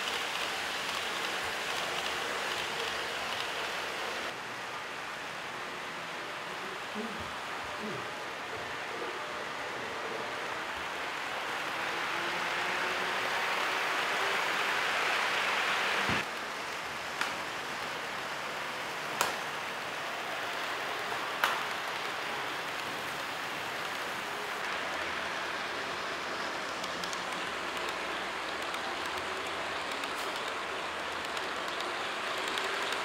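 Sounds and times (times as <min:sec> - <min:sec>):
model trains rolling on track: 0:00.0 - 0:33.0.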